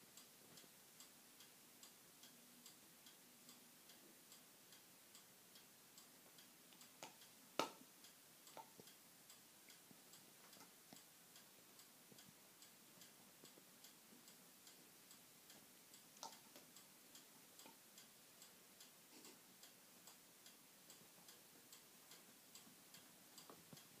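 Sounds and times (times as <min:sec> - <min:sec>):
faint steady ticking: 0:00.0 - 0:24.0.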